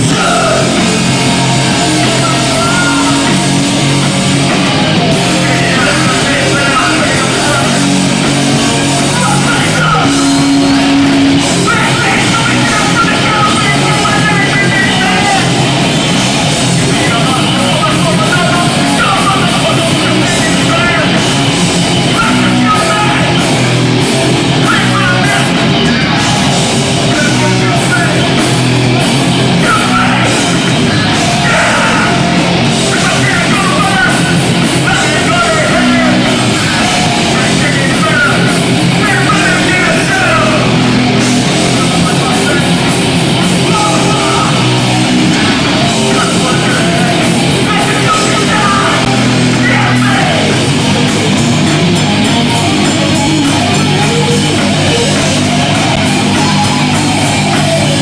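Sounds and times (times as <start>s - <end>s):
bass guitar: 0.0s - 58.0s
distorted guitars: 0.0s - 58.0s
drums: 0.0s - 58.0s
shouted vocal: 0.0s - 58.0s.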